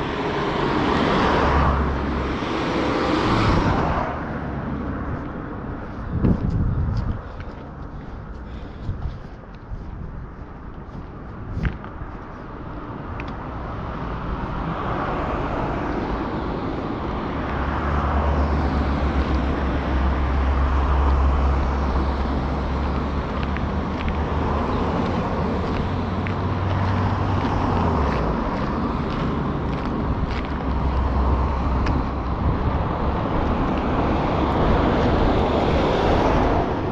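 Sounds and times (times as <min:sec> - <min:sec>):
road noise: 0:00.0 - 0:36.9
vehicle engine hum: 0:00.0 - 0:36.9.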